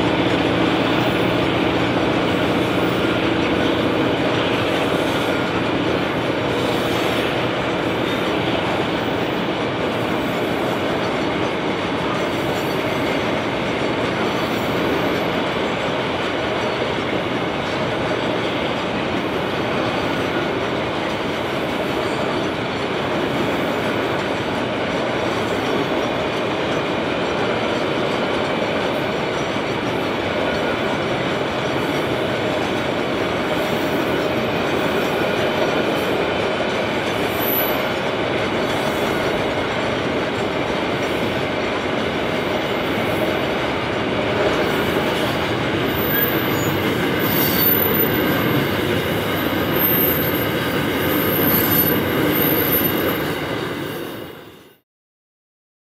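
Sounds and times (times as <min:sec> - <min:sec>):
steel wheels rolling on rail: 0:00.0 - 0:54.8.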